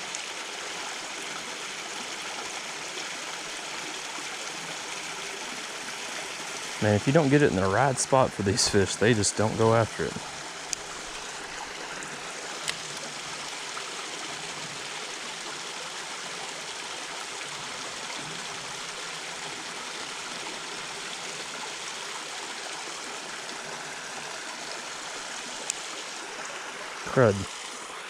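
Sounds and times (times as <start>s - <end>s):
creek water running: 0.0s - 28.0s.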